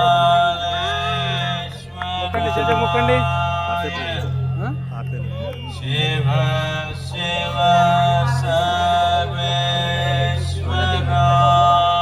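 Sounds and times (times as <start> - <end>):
low drone: 0.0 - 12.0
man chanting: 0.0 - 12.0.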